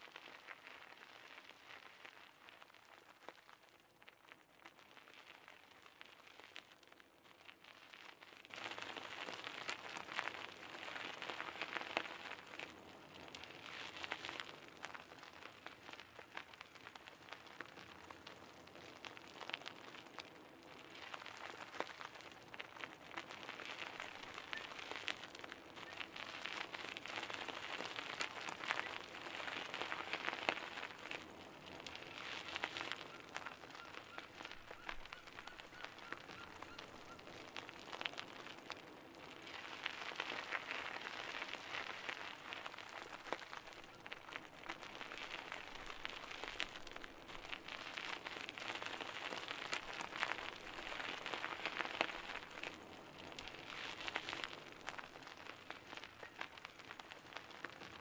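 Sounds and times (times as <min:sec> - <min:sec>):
bicycle tyres on gravel: 0:00.0 - 0:58.0.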